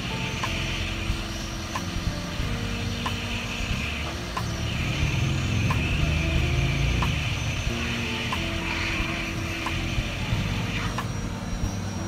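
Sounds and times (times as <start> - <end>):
hot air blower with low rumble: 0.0 - 12.0.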